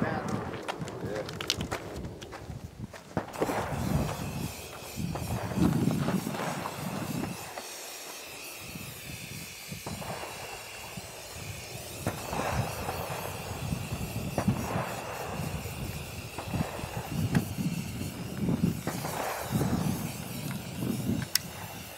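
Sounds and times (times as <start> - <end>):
spray paint can hissing: 3.3 - 21.9.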